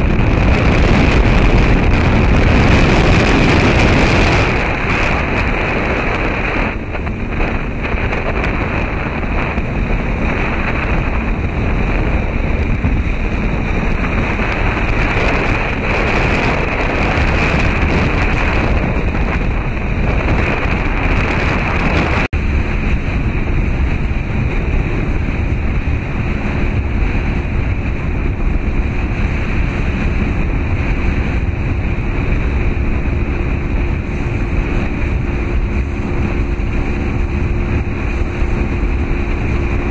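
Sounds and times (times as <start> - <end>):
boat engine running: 0.0 - 39.9
low engine hum: 0.0 - 39.9
water noise: 0.0 - 39.9
wind on microphone: 0.0 - 39.9.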